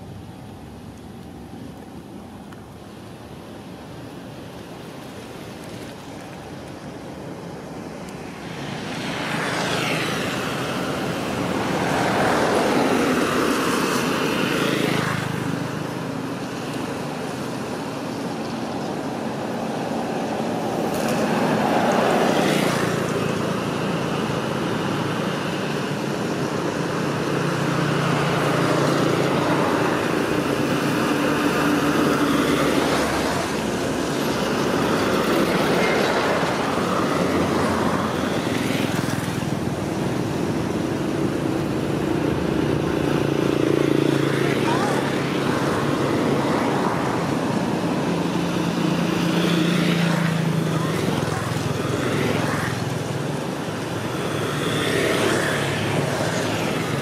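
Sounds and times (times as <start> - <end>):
steady engine hum: 0.0 - 57.0
vehicles passing on road: 0.0 - 57.0.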